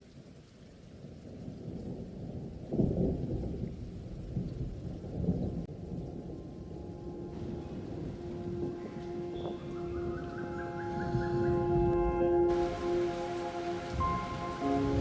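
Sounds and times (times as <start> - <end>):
rain: 0.0 - 15.0
thunder rumbling: 1.0 - 15.0.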